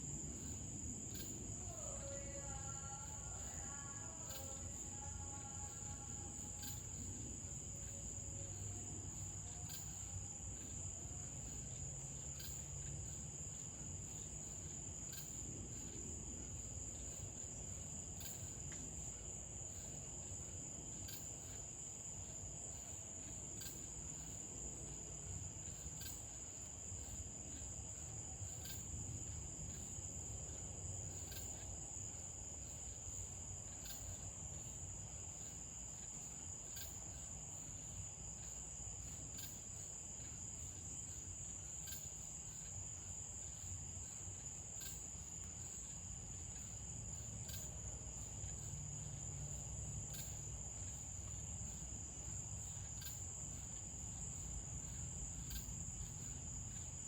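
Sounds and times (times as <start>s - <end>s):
crickets trilling: 0.0s - 57.0s
sharp cricket chirp: 0.0s - 57.0s.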